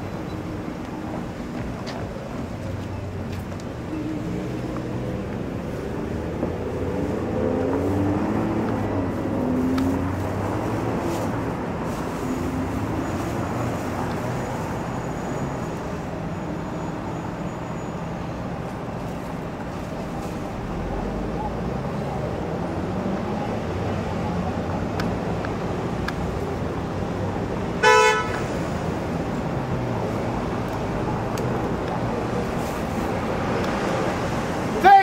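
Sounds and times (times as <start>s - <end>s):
cars passing: 0.0s - 35.0s.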